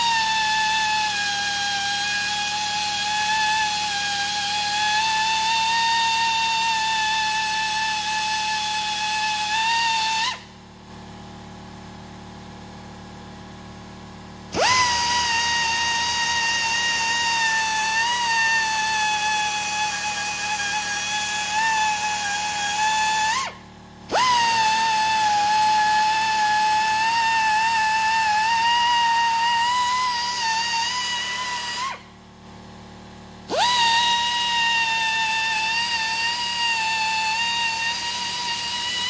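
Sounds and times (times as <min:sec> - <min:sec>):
air belt sander whining: 0:00.0 - 0:10.5, 0:14.5 - 0:32.2, 0:33.4 - 0:39.0.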